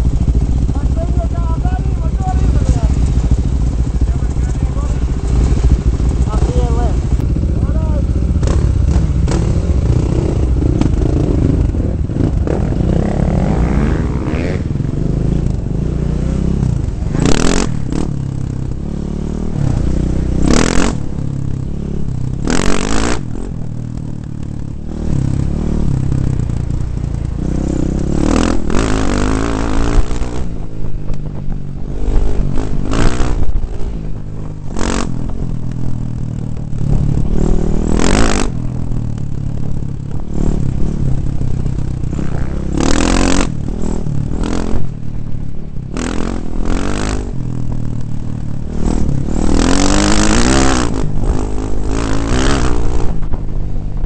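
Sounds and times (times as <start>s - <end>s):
dirt bike engine revving: 0.0s - 53.8s.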